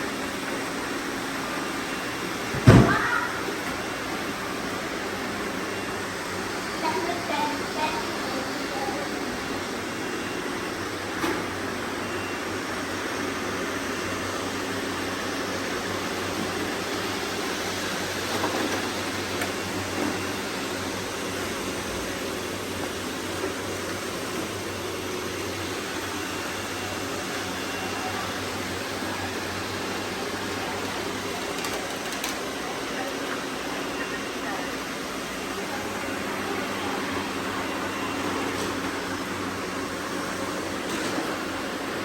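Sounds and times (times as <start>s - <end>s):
robot vacuum cleaners whirring: 0.0s - 42.0s.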